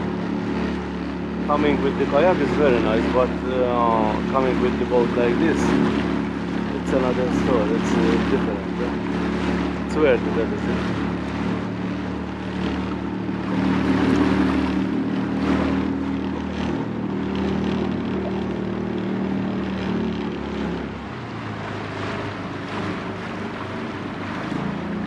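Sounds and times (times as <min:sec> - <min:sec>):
boat engine running: 0:00.0 - 0:25.0
water wash: 0:00.0 - 0:25.0.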